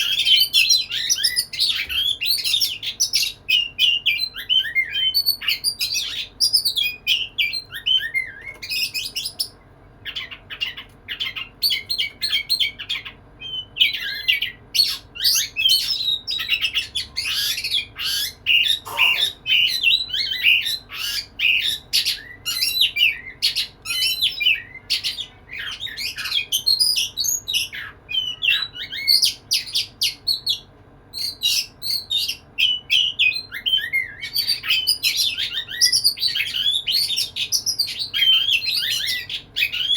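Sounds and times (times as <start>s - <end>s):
magpie-robin song: 0.0s - 39.9s.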